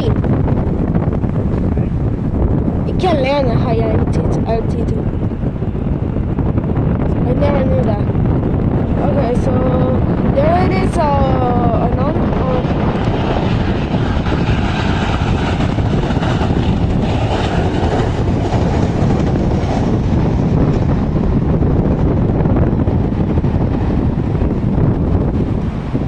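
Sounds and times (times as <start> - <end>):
jet airliner engine rumble: 0.0 - 26.0
wind buffeting microphone: 0.0 - 26.0.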